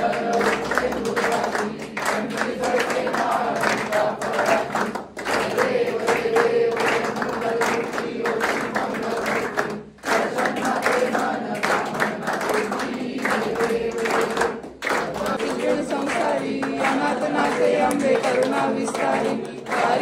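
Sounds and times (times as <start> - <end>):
group singing devotional song: 0.0 - 20.0
hands clapping along: 0.0 - 20.0.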